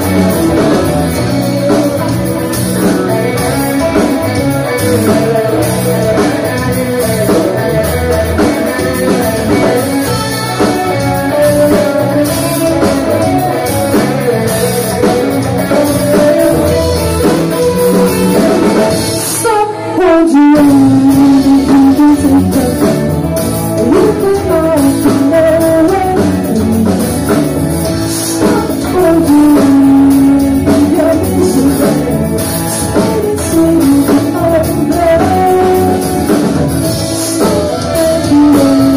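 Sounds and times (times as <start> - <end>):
live rock band playing: 0.0 - 38.9
person singing: 0.0 - 38.9.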